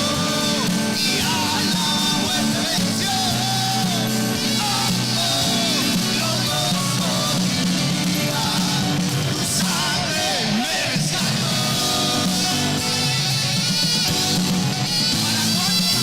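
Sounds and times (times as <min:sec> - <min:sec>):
band playing worship music: 0:00.0 - 0:16.0
person singing: 0:00.0 - 0:16.0.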